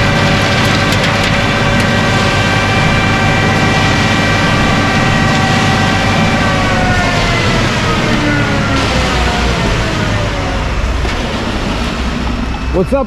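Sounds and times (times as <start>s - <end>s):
truck engine running with whine: 0.0s - 13.0s.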